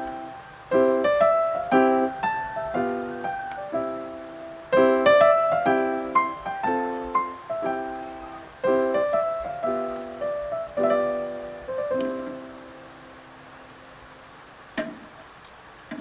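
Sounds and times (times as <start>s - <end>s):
piano music: 0.0s - 14.4s.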